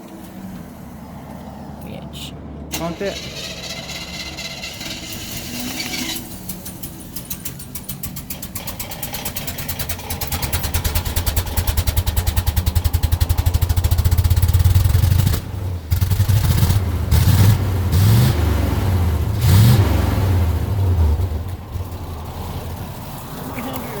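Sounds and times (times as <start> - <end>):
truck engine cranking and revving: 0.0 - 24.0.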